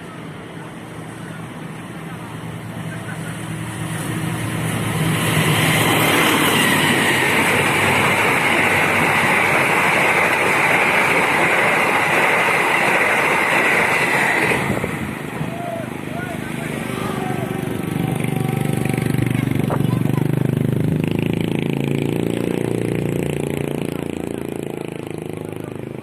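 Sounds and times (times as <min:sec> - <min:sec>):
train wheels rushing on rails: 0:00.0 - 0:26.0.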